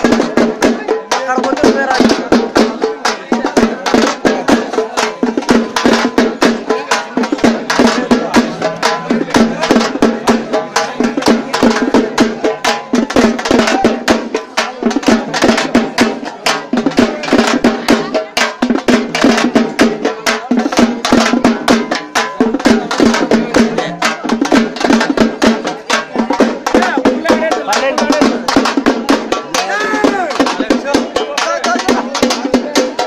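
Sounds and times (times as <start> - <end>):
frame drums beaten fast: 0.0 - 33.0.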